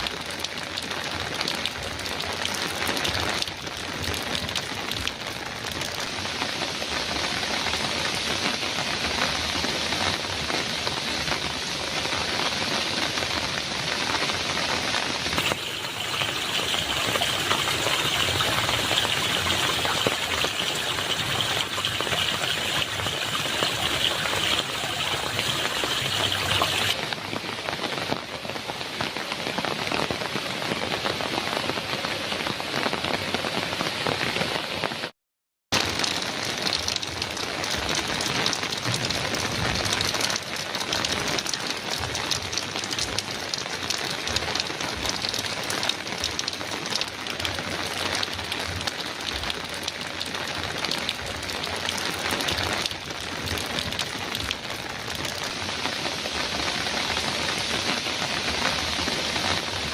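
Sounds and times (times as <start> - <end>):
heavy rain on a metal roof: 0.0 - 35.1, 35.7 - 59.9.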